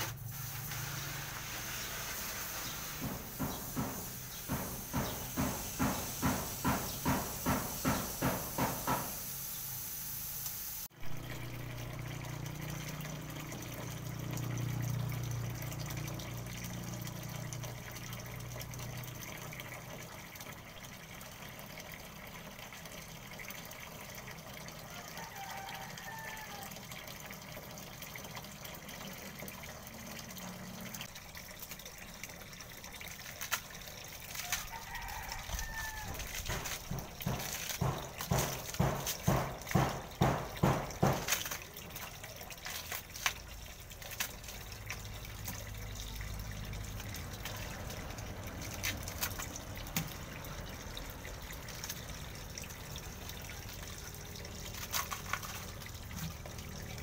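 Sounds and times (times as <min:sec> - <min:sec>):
water from hose splashing into pool: 0:00.0 - 0:57.0.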